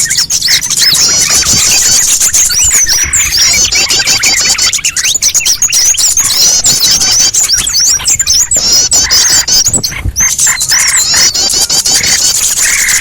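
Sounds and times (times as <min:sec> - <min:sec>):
flock of small birds chirping: 0:00.0 - 0:13.0
lower buzzy bird calls: 0:00.0 - 0:13.0.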